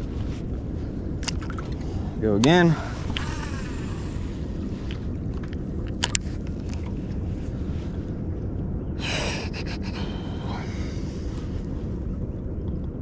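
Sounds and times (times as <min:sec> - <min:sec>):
water noise around boat: 0:00.0 - 0:13.0
wind: 0:00.0 - 0:13.0.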